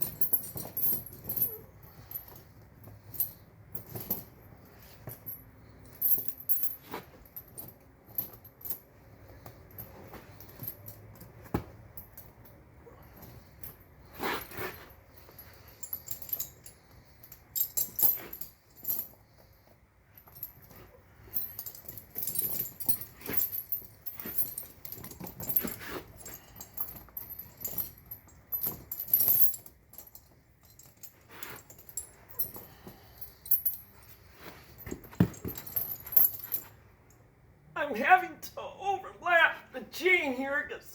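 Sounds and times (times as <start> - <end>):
steel chain clinking and rattling: 0.0 - 37.4.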